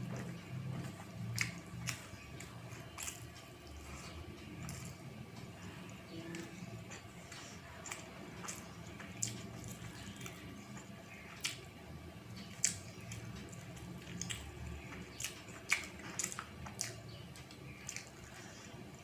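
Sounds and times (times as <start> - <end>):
low steady hum: 0.0 - 19.0
wet chewing and smacking: 0.0 - 19.0.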